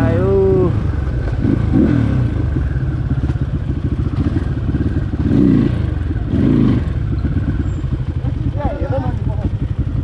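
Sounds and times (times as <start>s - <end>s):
dirt bike engine chugging: 0.0s - 10.0s.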